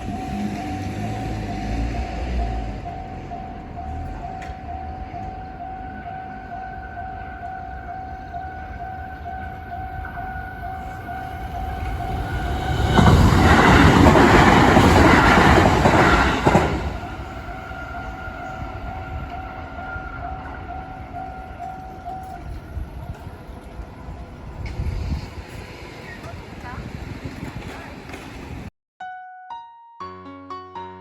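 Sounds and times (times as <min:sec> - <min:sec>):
train passing: 0:00.0 - 0:28.7.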